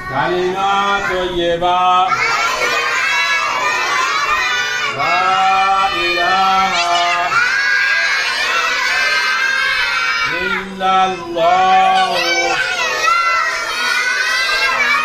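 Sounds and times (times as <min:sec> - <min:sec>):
children reciting in unison: 0:00.0 - 0:15.0.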